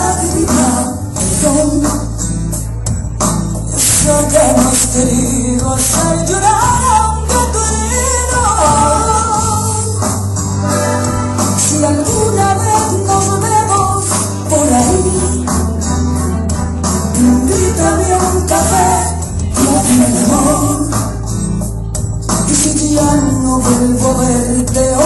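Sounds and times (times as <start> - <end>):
pop ballad instrumental music: 0.0 - 25.0.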